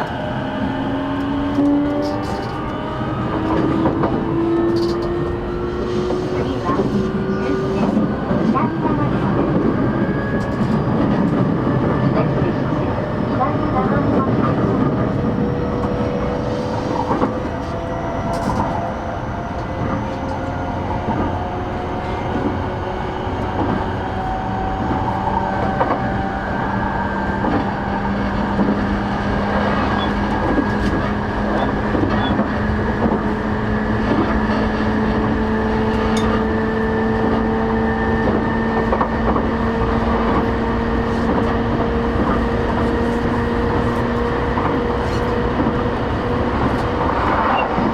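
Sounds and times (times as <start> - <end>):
train wheel and rail rumble: 0.0 - 47.9.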